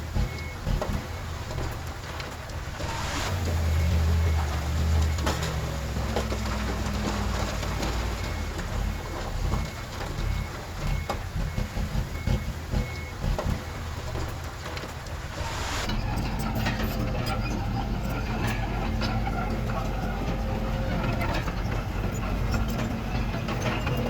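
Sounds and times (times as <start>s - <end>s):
heavy diesel machinery running: 0.0s - 24.0s
reversing alarm beeping: 0.0s - 24.0s.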